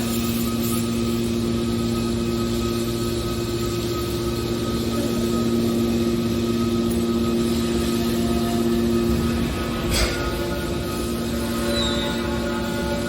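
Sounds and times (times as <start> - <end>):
hydraulic baler humming: 0.0 - 13.0.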